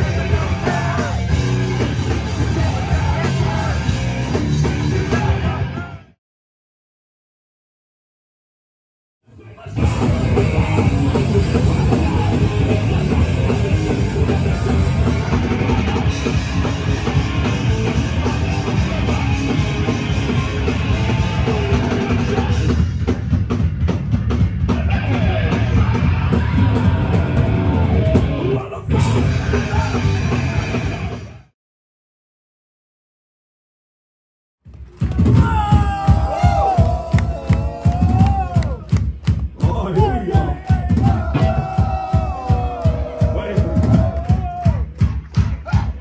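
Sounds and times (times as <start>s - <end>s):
punk band playing loud: 0.0s - 6.1s, 9.7s - 31.5s, 34.8s - 46.0s.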